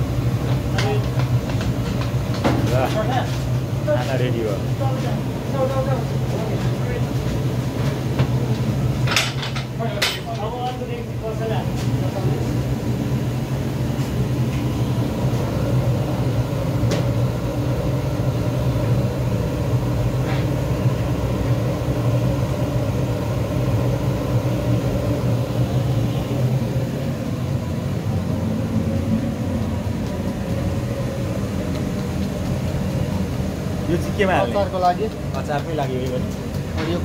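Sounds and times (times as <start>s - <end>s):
low mechanical rumble: 0.0s - 37.0s.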